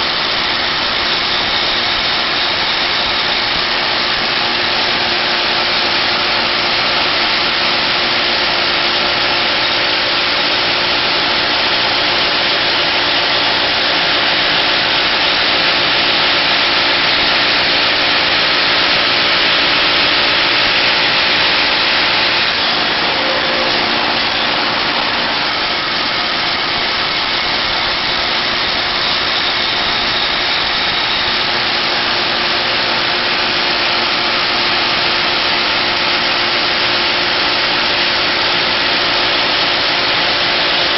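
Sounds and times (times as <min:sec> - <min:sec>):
machine engine running: 0:00.0 - 0:40.9.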